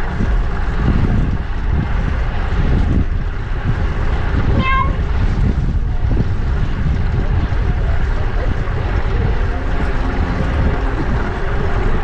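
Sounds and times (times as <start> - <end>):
surrounding traffic: 0.0 - 12.0
wind buffeting microphone: 0.0 - 12.0.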